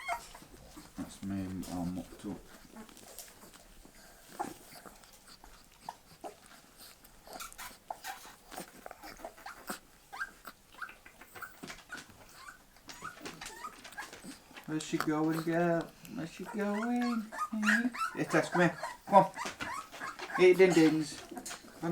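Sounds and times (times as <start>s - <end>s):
puppies whimpering: 0.0s - 21.9s.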